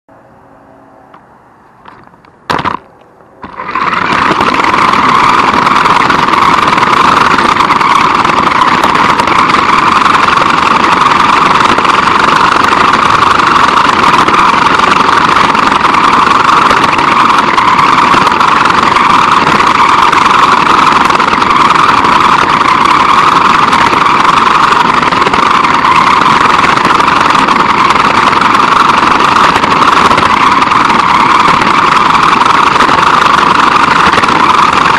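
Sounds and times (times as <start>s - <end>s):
rc car motor whining: 1.1s - 34.9s.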